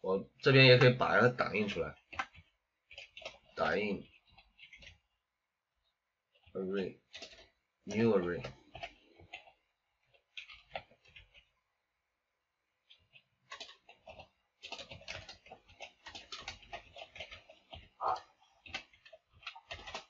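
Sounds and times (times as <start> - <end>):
typing on computer keyboard: 0.5 - 5.0, 6.3 - 11.5, 12.9 - 20.0.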